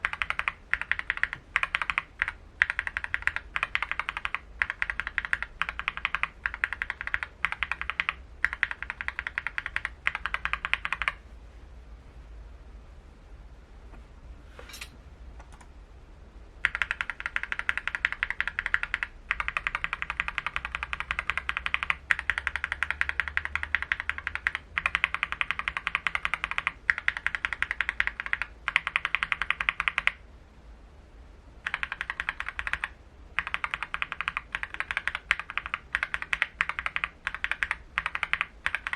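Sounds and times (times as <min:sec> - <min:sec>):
mechanical keyboard typing: 0:00.0 - 0:11.2, 0:16.6 - 0:30.2, 0:31.6 - 0:38.9.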